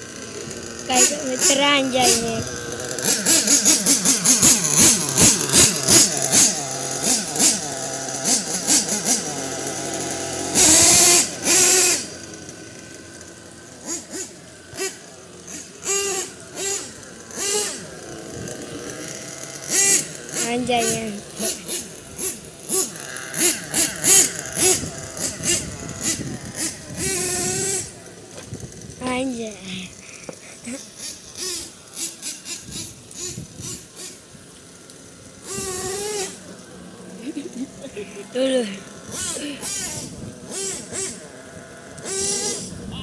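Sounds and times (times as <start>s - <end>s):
rc truck engine revving: 0.0s - 43.0s.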